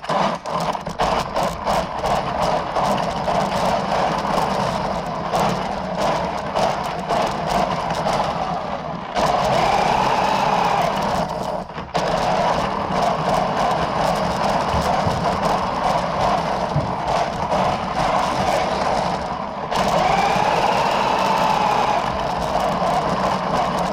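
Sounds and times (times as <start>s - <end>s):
small electric motor whining: 0.0s - 23.9s.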